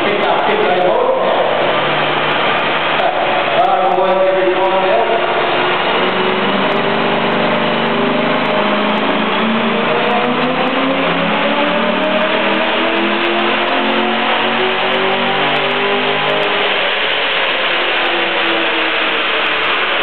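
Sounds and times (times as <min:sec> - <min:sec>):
engine revving on a dyno: 0:00.0 - 0:20.0.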